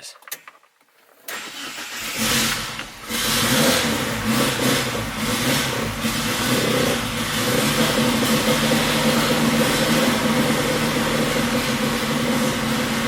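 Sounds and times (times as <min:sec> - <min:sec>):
car engine cranking and starting: 0:01.0 - 0:13.0.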